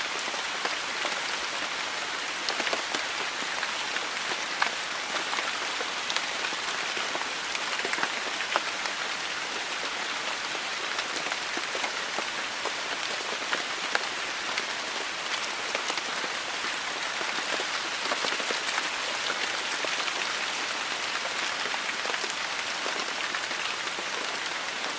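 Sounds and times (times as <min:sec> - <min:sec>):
heavy rain on hard surfaces: 0:00.0 - 0:24.9.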